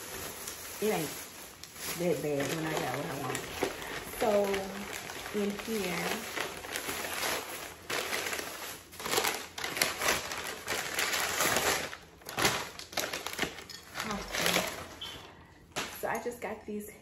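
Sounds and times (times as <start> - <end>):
paper crinkling: 0.0 - 15.9
plastic bag rustling: 0.0 - 16.2.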